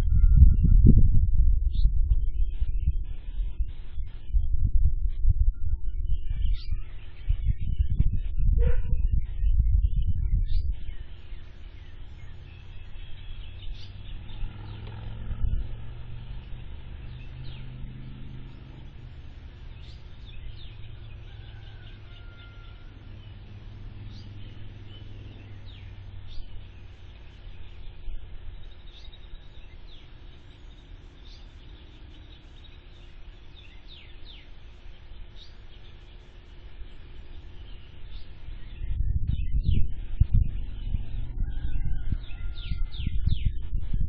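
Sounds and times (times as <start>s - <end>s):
steady low hum: 0.0s - 42.2s
low rumble: 0.0s - 44.0s.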